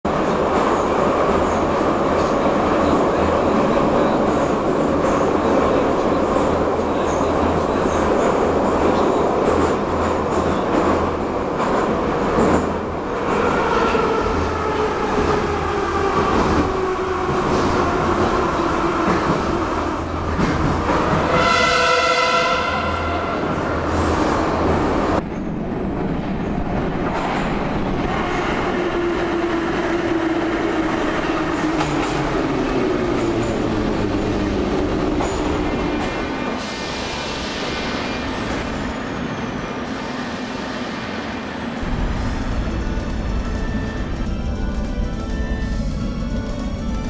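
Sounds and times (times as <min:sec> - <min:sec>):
metro train wheels rumbling: 0:00.1 - 0:47.0.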